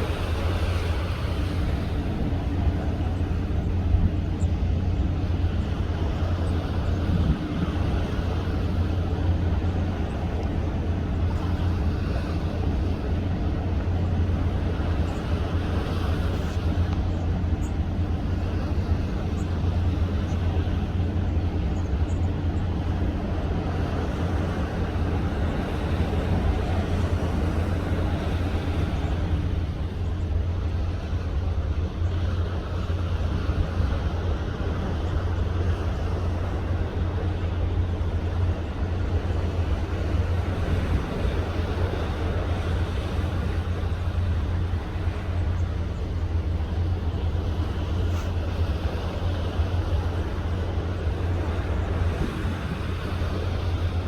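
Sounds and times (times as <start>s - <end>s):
rushing wind and water: 0.0s - 54.0s
ship engines droning: 0.0s - 54.0s.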